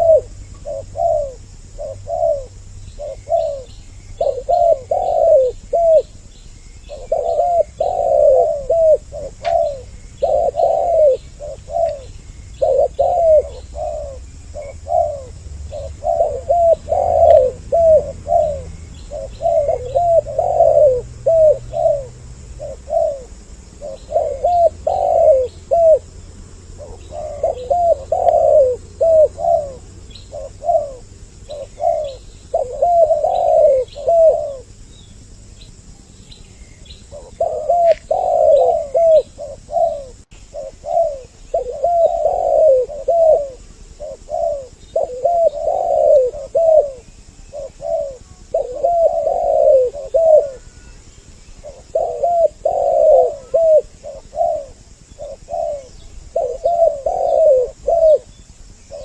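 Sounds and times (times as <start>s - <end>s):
faint high bird chirps: 0.0s - 26.1s, 26.8s - 59.0s
doves cooing: 0.0s - 35.8s, 36.5s - 59.0s.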